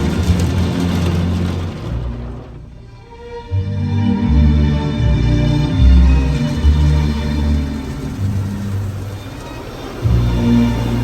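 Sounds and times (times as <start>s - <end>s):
ambient background music: 0.0s - 11.0s.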